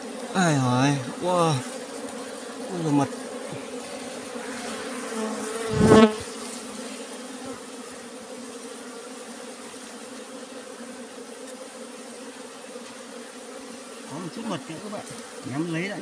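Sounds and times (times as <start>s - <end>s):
bees buzzing in a swarm: 0.0s - 16.0s.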